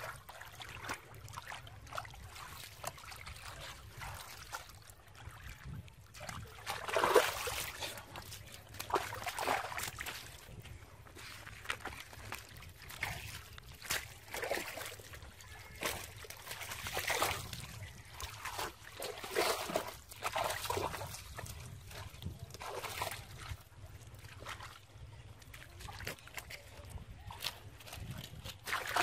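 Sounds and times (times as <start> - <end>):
hands splashing in muddy water: 0.0 - 23.6, 24.2 - 29.0.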